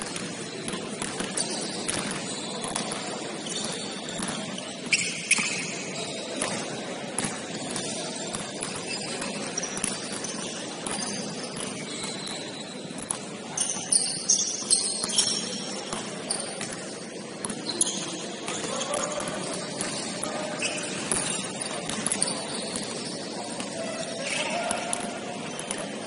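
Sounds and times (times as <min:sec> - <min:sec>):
gym background noise: 0:00.0 - 0:26.0.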